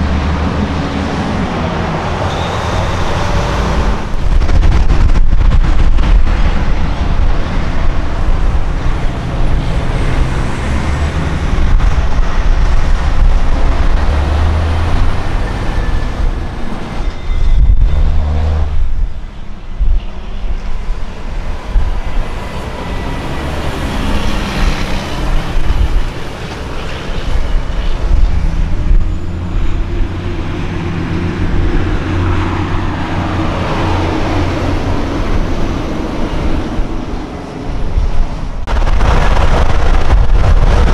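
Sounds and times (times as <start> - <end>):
diesel truck engines pulling away: 0.0 - 19.0, 21.5 - 37.8.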